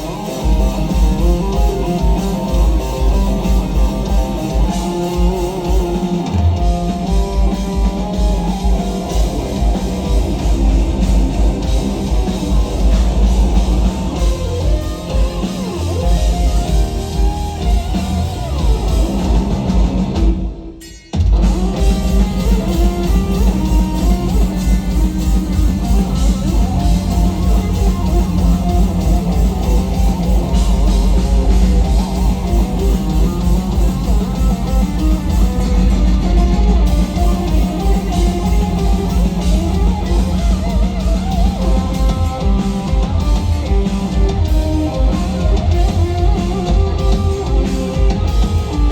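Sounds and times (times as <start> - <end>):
heavy metal band playing: 0.0 - 48.9
shred lead electric guitar: 0.0 - 48.9.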